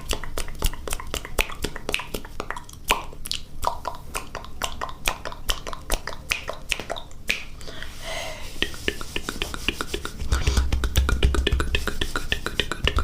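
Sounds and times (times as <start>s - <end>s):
mouth clicks: 0.0s - 7.6s, 9.5s - 13.0s.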